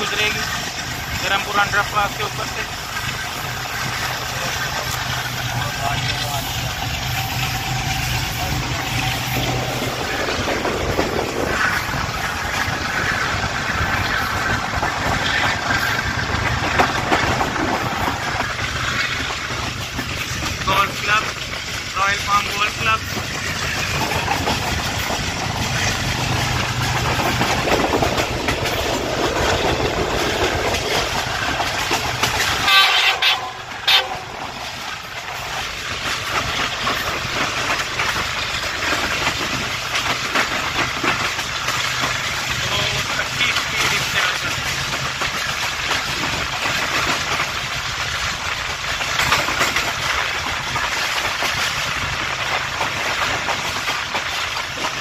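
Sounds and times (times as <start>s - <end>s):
wheels clattering on rails: 0.0s - 55.0s.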